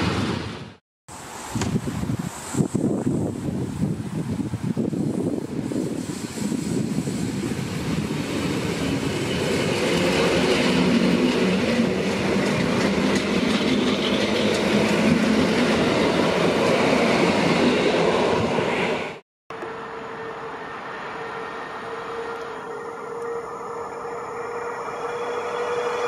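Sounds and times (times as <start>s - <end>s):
electric train rumbling past: 0.0s - 26.0s.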